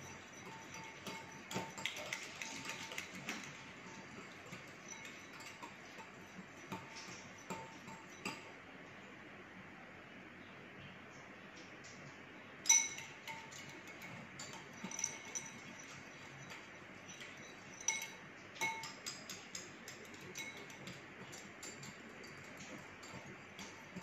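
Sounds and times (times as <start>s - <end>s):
whisk clinking on glass bowl: 0.0s - 8.6s, 12.6s - 24.0s.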